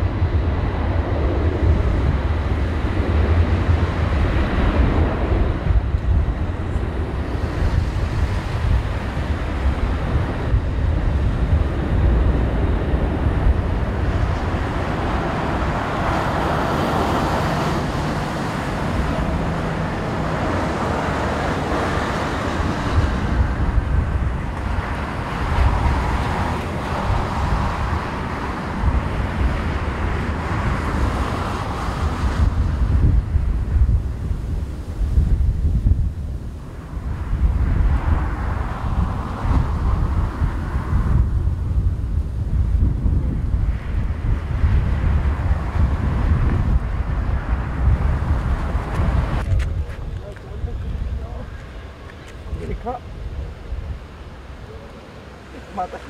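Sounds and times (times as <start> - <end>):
jet engines roaring at takeoff: 0.0 - 56.0
wind buffeting microphone: 0.0 - 56.0.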